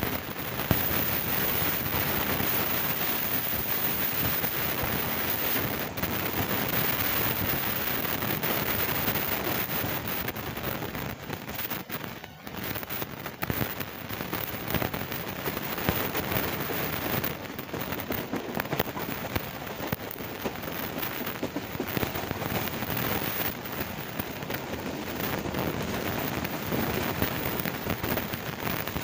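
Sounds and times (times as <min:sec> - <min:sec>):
train running at speed: 0:00.0 - 0:29.0.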